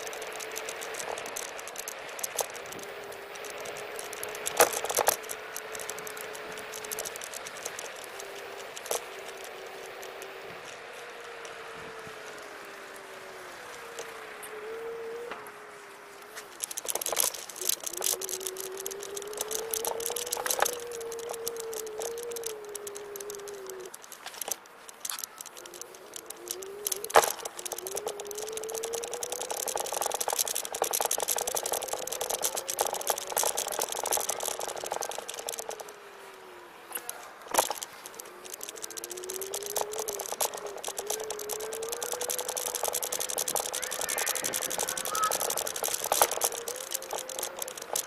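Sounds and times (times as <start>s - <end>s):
electric scooter motor whining: 0.0s - 48.0s
wheels rolling over paving: 0.0s - 48.0s.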